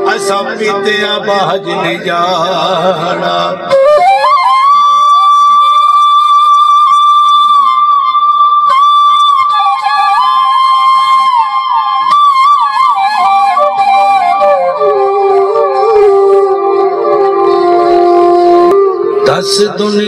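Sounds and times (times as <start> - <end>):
bamboo flute melody: 0.0 - 0.8, 3.6 - 19.4.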